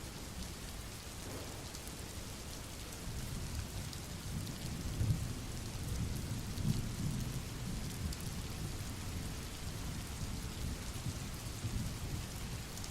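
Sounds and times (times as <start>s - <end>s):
steady rain hissing: 0.0s - 12.9s.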